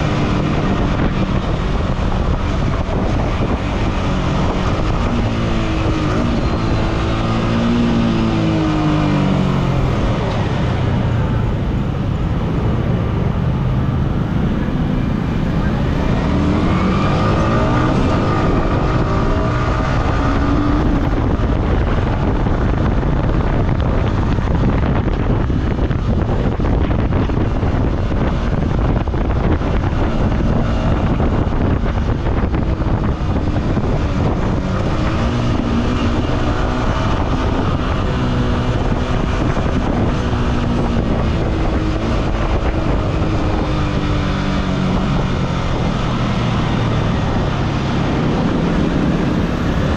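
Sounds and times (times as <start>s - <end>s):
motorcycle engine while riding: 0.0s - 49.9s
wind noise on microphone: 0.0s - 49.9s.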